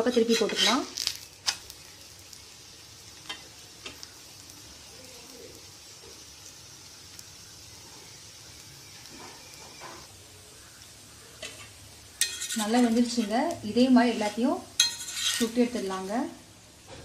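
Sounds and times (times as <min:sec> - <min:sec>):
faint sizzle of frying: 0:00.0 - 0:17.0.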